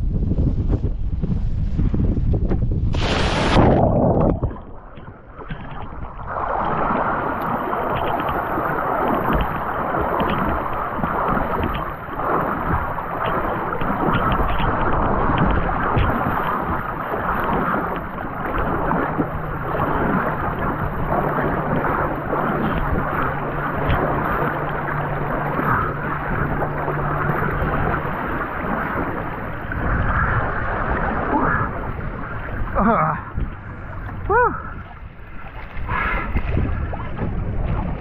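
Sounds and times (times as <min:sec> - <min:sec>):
water churning and splashing: 0:00.0 - 0:38.0
small water crackles: 0:02.4 - 0:38.0
body splashing into water: 0:02.9 - 0:34.3.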